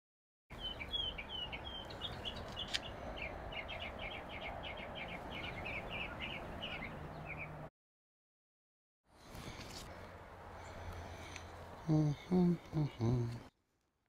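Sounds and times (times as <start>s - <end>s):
outdoor background noise: 0.5s - 7.7s, 9.0s - 14.0s
small birds chirping: 0.5s - 7.7s, 9.2s - 13.6s.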